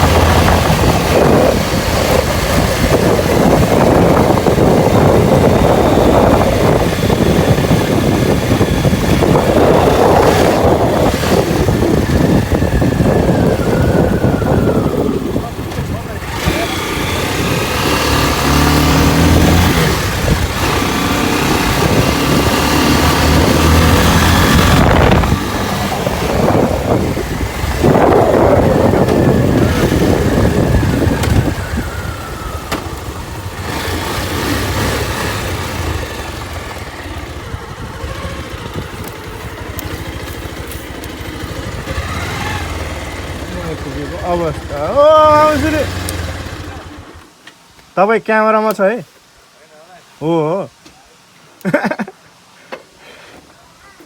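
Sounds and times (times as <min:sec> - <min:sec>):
motorcycle engine running: 0:00.0 - 0:47.4.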